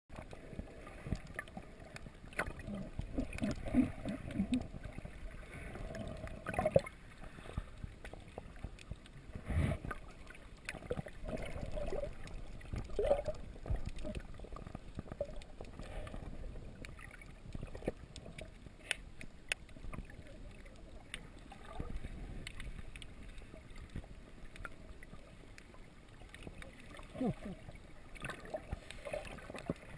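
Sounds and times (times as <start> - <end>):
water sloshing underwater: 0.1 - 29.9.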